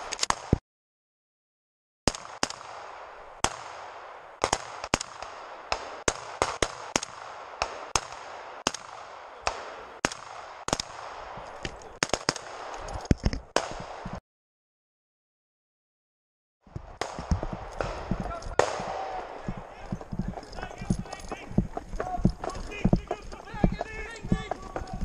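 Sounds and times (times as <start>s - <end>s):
rifle shots: 2.1s - 14.2s, 17.0s - 25.0s.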